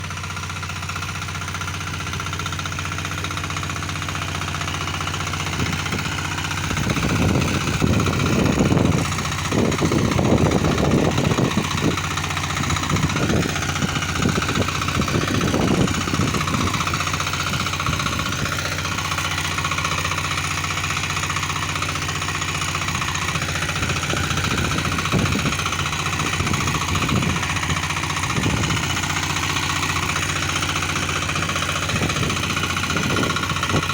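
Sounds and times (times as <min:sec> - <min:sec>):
small diesel engine running: 0:00.0 - 0:33.9.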